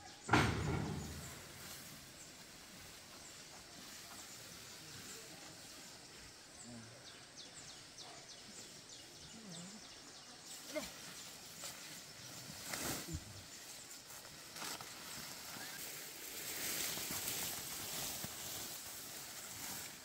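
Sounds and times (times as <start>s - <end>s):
rustling: 0.2s - 6.4s, 10.0s - 20.0s.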